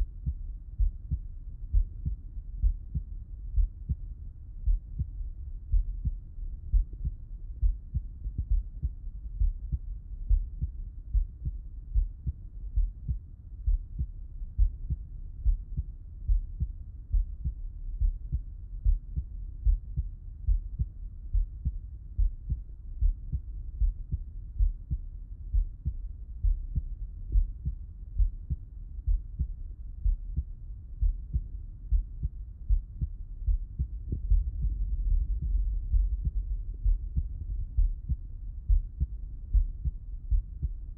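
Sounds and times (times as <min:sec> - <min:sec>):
heartbeat through stethoscope: 0:00.0 - 0:40.9.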